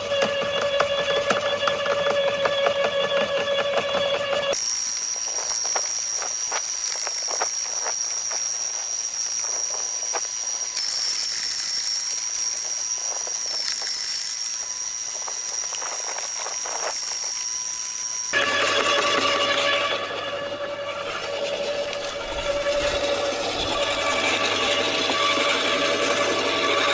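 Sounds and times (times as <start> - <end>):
power tool motor whining: 0.0 - 26.9.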